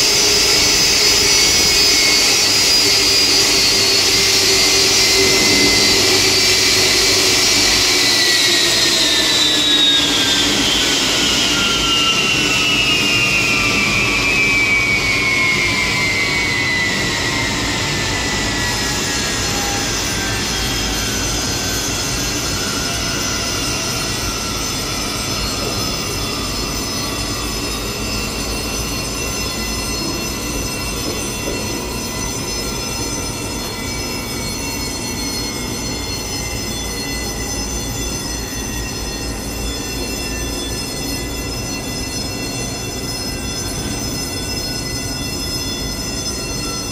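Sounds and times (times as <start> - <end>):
jet engines spooling down: 0.0 - 46.9
steady whine: 0.0 - 46.9.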